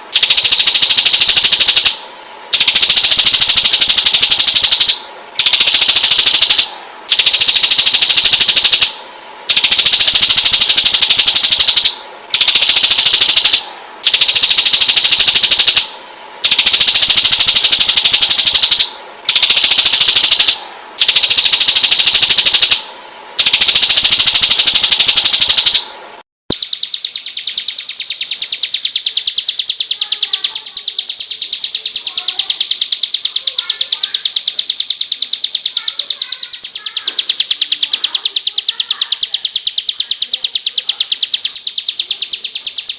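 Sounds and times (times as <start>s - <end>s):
faint bird chirps: 0.0s - 25.9s, 26.5s - 42.9s
songbird rapid trills: 0.0s - 42.9s.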